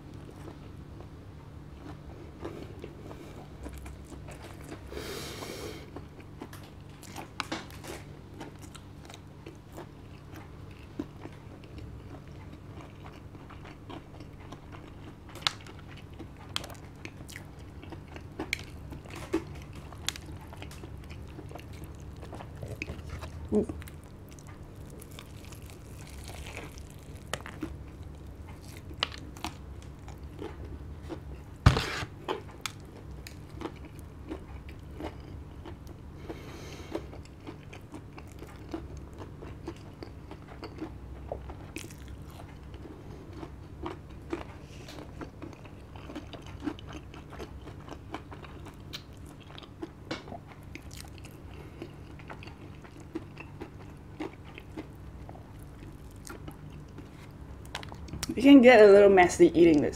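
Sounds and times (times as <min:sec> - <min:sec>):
crunchy bites and chewing: 0:05.9 - 0:58.4.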